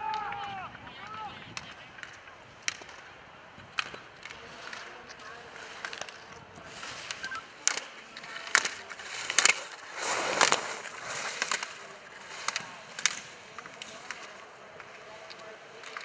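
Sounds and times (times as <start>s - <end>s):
skis scraping on snow: 1.6s - 16.0s.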